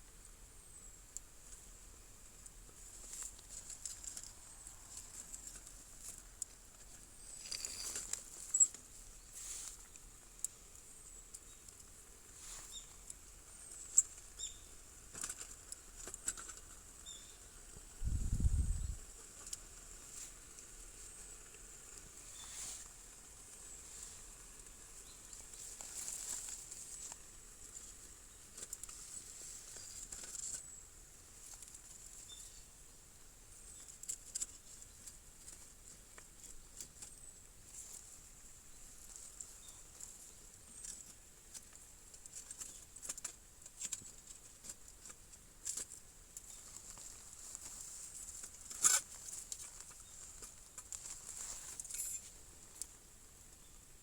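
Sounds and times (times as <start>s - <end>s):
rustling: 1.4s - 53.6s.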